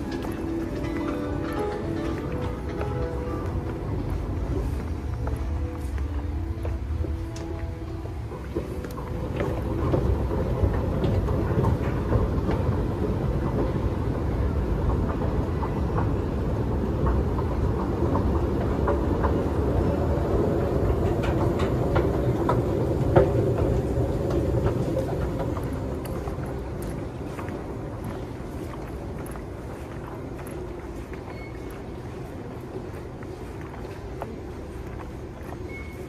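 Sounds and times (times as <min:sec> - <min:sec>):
escalator mechanical rumble: 0:00.0 - 0:36.0.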